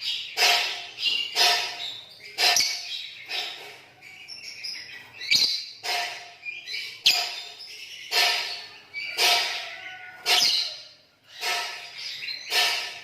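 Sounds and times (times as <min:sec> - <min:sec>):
high bird chirps: 0:00.0 - 0:13.0
lovebirds chattering calls: 0:00.0 - 0:13.0.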